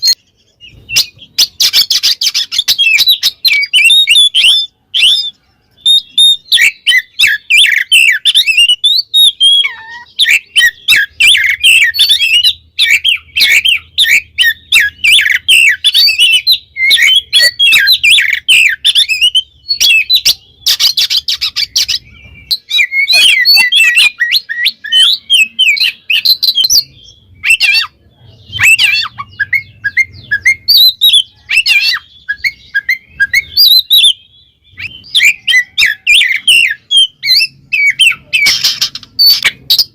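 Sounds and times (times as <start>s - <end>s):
songbird singing whistles and trills: 0.0s - 39.9s.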